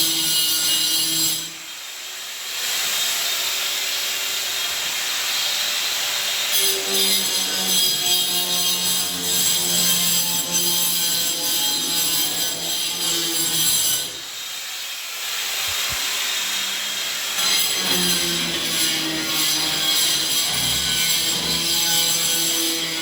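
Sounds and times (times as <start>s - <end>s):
power tool grinding metal: 0.0s - 23.0s.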